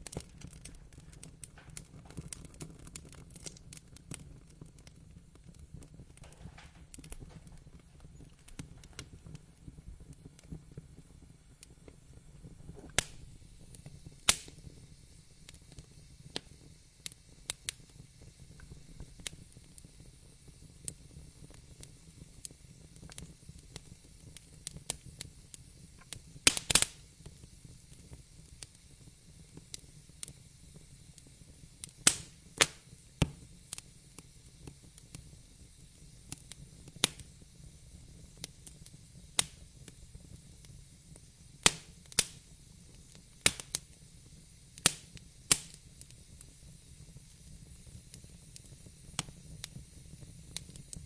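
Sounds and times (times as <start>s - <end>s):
faint hiss of burning: 0.0s - 51.0s
wood fire crackling: 0.0s - 51.0s.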